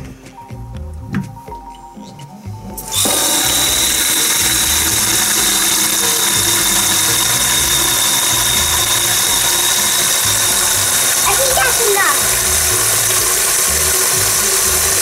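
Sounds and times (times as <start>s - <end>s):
faucet running into pitcher: 2.8s - 15.0s.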